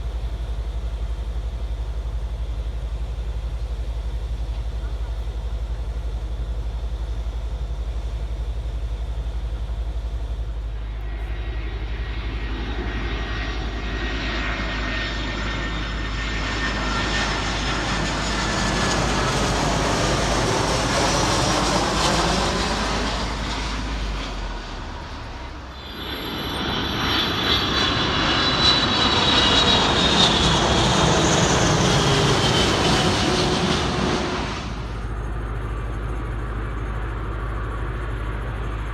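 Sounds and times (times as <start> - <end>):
high whine of engine fans: 0.0 - 38.9
jet airliner passing overhead: 0.0 - 38.9.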